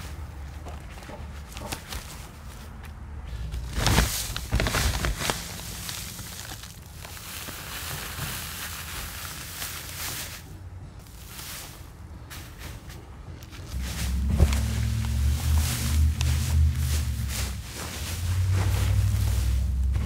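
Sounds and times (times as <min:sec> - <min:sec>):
hands rustling grass clippings and straw: 0:00.0 - 0:20.0.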